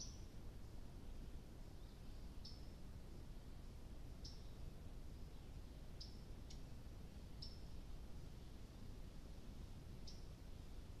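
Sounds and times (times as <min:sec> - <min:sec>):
faint low hiss: 0:00.0 - 0:11.0.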